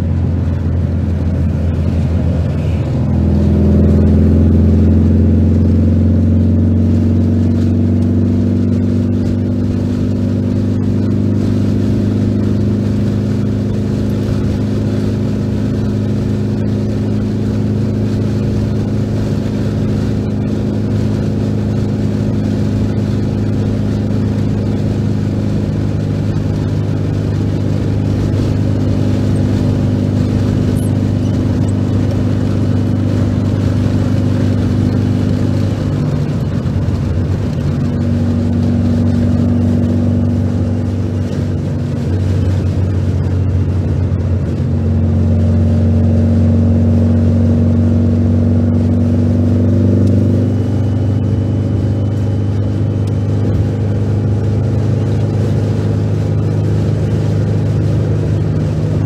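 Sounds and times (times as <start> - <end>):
car engine cruising: 0.0 - 59.0
road noise: 0.0 - 59.0.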